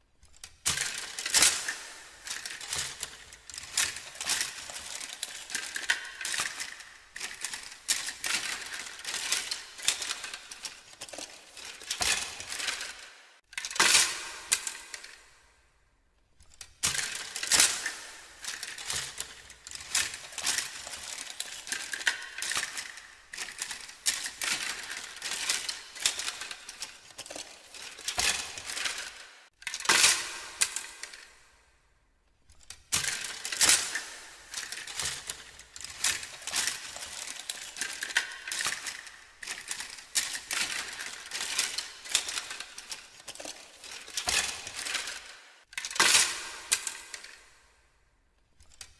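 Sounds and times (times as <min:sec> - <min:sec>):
small hard objects clattering: 0:00.7 - 0:15.2, 0:16.8 - 0:31.2, 0:33.0 - 0:47.4.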